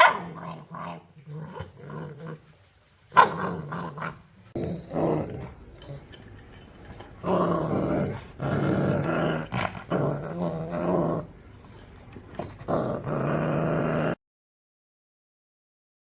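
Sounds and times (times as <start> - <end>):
dog growling: 0.0 - 2.5, 3.1 - 6.2, 6.8 - 14.2.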